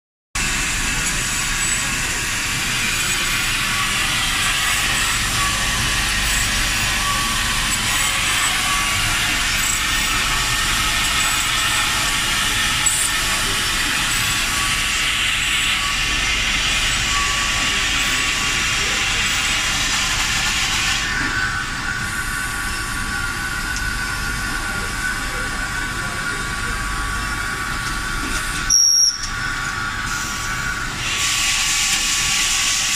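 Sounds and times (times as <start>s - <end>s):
machine high hiss: 0.4s - 27.8s, 28.6s - 32.9s.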